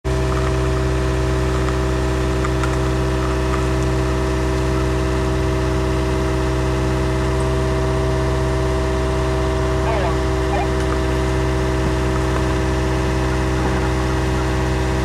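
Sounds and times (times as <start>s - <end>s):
diesel engine idling: 0.1s - 15.0s.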